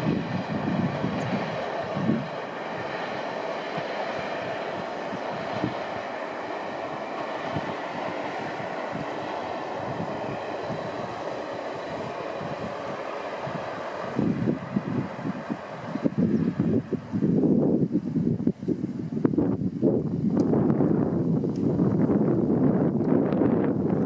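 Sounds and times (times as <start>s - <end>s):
diesel train running: 0.0s - 24.0s
wind buffeting microphone: 0.0s - 24.0s.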